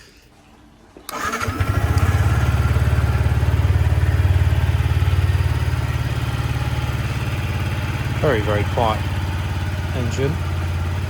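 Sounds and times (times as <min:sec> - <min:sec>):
motorcycle engine idling: 0:01.1 - 0:11.0.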